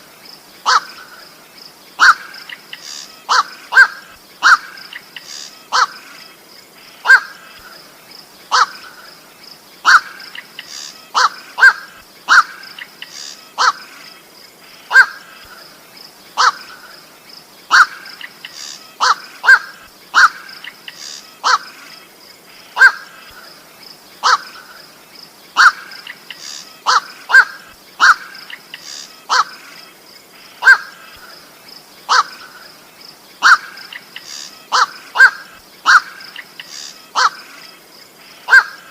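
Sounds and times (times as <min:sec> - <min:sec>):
bird harsh calls: 0:00.6 - 0:01.4, 0:02.0 - 0:38.9.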